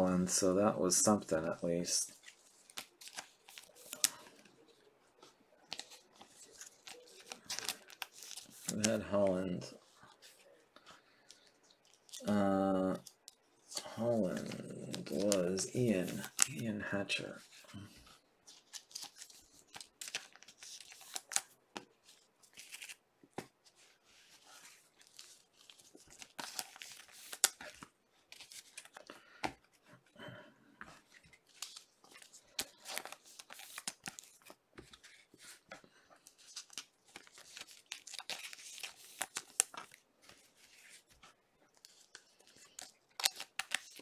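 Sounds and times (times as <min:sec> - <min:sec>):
plastic sleeves crinkling: 0:00.9 - 0:30.1, 0:30.8 - 0:44.0.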